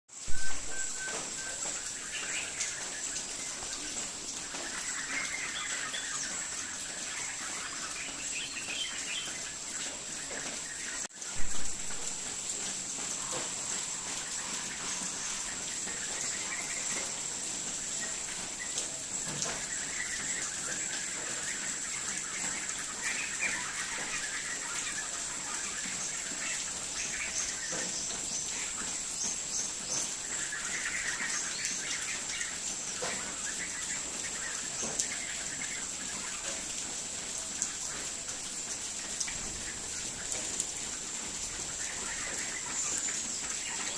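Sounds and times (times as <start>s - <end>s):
birds chirping: 0.1s - 43.9s.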